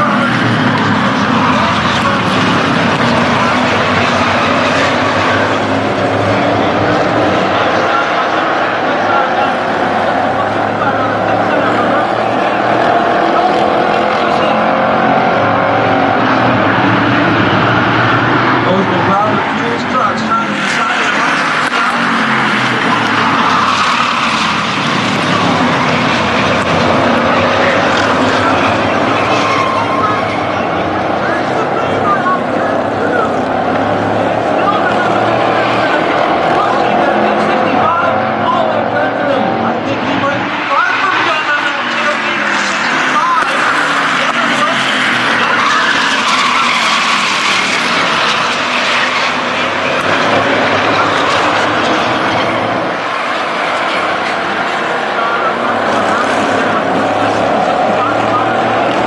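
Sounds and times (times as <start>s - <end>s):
race truck engines passing: 0.0s - 59.0s.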